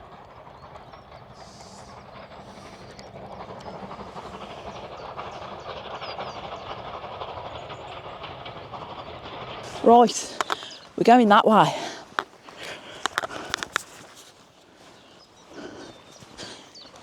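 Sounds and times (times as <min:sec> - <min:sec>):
train wheels clattering on rails: 0:00.0 - 0:17.0.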